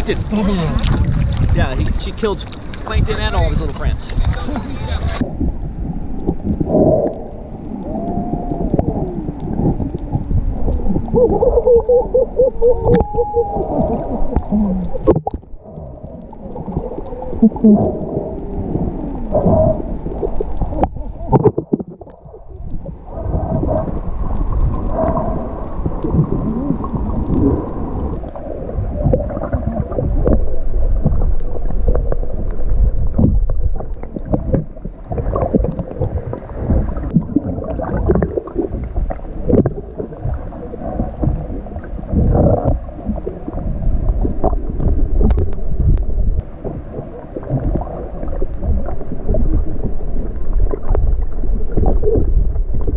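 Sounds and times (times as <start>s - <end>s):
muffled underwater rumble: 0.0s - 52.9s
water gurgling against camera: 0.0s - 52.9s.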